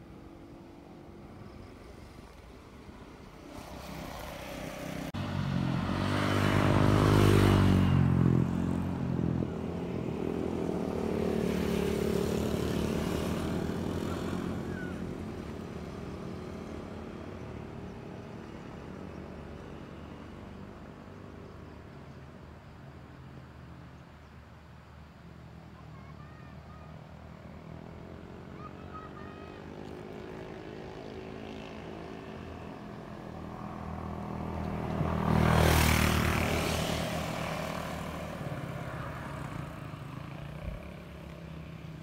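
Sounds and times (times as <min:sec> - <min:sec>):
motor vehicle passing by: 0:01.4 - 0:24.4, 0:25.0 - 0:42.0.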